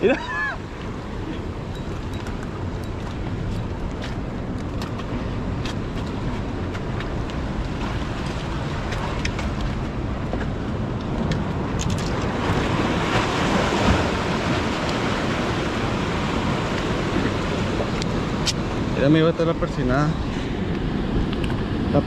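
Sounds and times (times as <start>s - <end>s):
surf washing against rocks: 0.0s - 22.0s.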